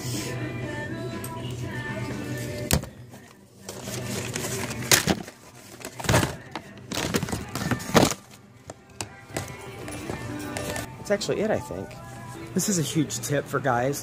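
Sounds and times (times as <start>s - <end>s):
music playing: 0.0s - 14.0s.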